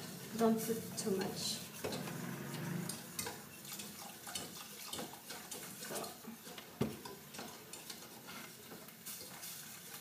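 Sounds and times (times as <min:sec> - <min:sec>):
utensil scraping metal saucepan: 0:00.0 - 0:10.0.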